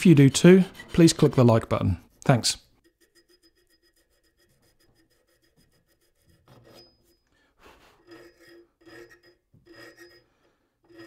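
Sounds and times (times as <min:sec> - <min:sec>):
hand file on steel: 0:00.0 - 0:11.0.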